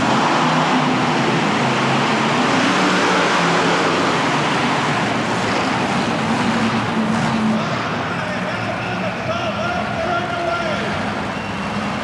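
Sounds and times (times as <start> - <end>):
arena noise: 0.0 - 12.0
monster truck engine running: 0.0 - 12.0.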